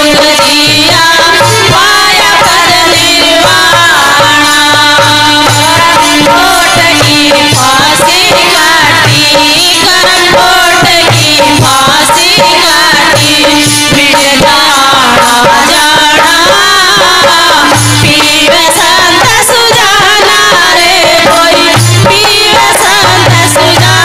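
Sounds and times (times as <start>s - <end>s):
folk devotional melody: 0.0s - 24.0s
hand drum rhythm: 0.0s - 24.0s.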